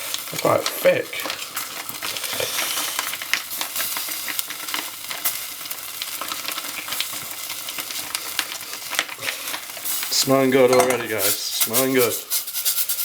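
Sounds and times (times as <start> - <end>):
food sizzling in a pan: 0.0 - 13.0
small pops of frying: 0.0 - 13.0.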